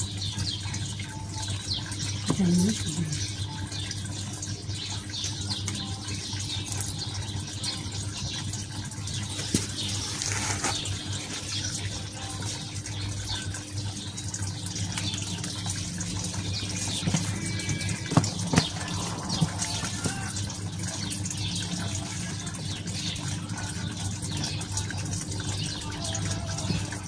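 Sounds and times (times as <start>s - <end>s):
rushing running water: 0.0s - 27.0s
small birds chirping: 0.0s - 27.0s.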